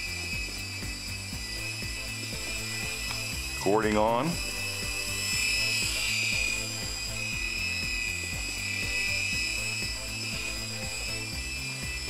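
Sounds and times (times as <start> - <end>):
music with steady beat: 0.0 - 12.0
toy helicopter rotors whining: 0.0 - 12.0.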